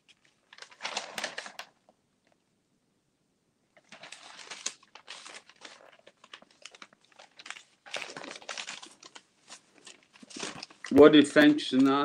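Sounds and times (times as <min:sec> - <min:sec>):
newspaper pages rustling: 0:00.0 - 0:01.8, 0:03.8 - 0:12.0.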